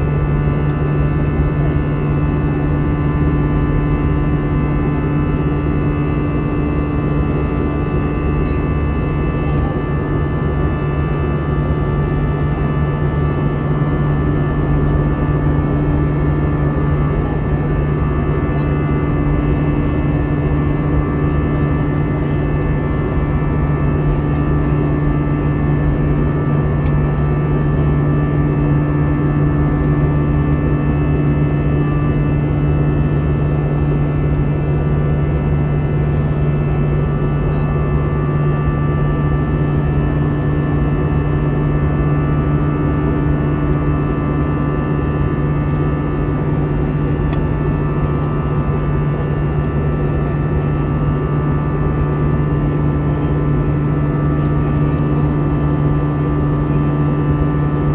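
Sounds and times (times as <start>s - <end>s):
jet cabin engine drone: 0.0s - 57.9s.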